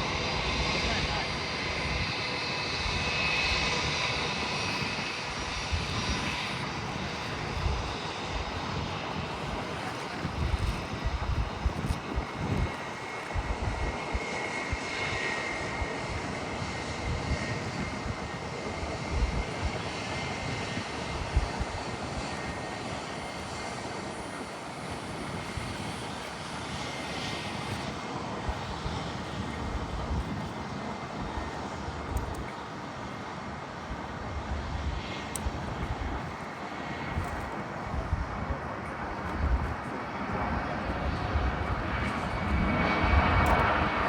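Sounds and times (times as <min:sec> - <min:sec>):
jet engines running: 0:00.0 - 0:44.0
wind buffeting microphone: 0:00.0 - 0:44.0.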